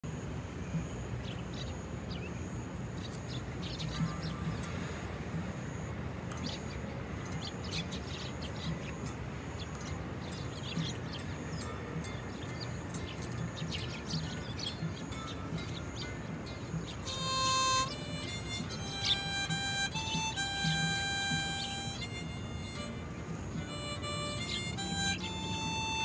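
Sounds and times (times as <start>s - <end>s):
sparrows chirping: 1.2s - 4.8s, 6.3s - 26.0s.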